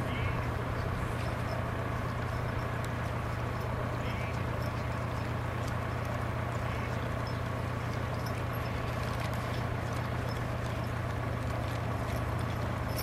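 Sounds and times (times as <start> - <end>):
harness clinking: 0.0 - 13.0
hooves plodding in snow: 0.0 - 13.0
steady low hum: 0.0 - 13.0.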